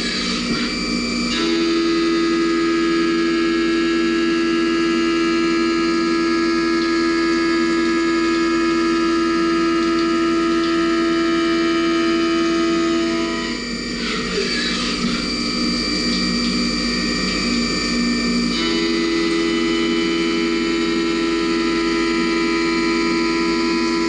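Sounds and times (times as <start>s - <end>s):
milling machine whine: 0.0s - 24.0s.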